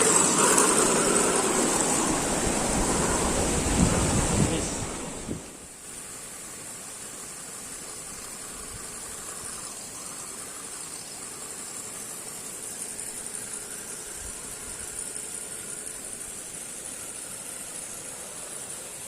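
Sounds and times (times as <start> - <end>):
electric motor and gears whirring: 0.0 - 19.0
high hiss: 0.0 - 19.0.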